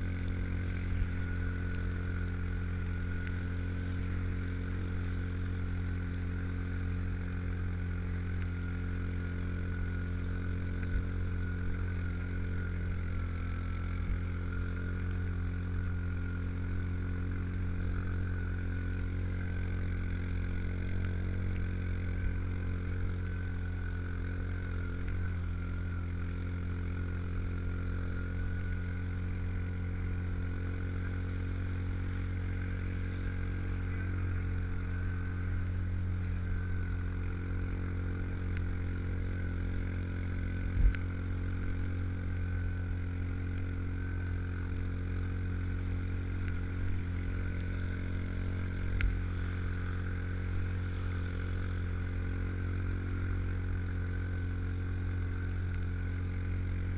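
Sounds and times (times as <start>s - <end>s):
single-cylinder engine running: 0.0s - 56.9s
steady high whine: 0.0s - 56.9s.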